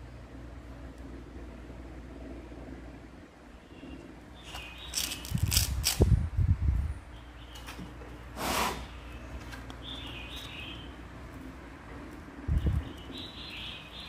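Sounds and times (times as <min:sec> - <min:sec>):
faint birds chirping: 0:00.0 - 0:05.7, 0:06.7 - 0:14.0.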